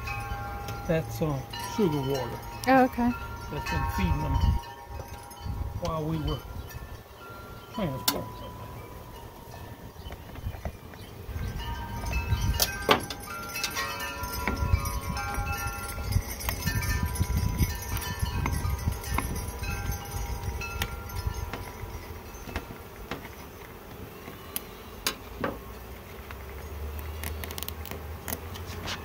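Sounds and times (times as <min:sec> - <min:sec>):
wind chimes ringing: 0:00.0 - 0:23.6.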